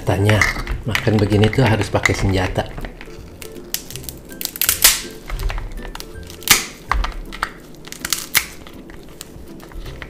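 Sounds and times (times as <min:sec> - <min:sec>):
background music: 0:00.0 - 0:10.0
crab shell cracking: 0:00.3 - 0:10.0.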